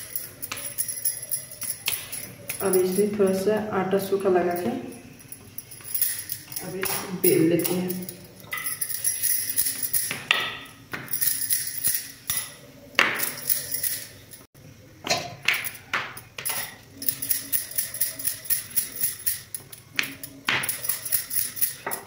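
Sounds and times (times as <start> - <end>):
bangles clinking: 0.0 - 14.5, 15.5 - 22.0.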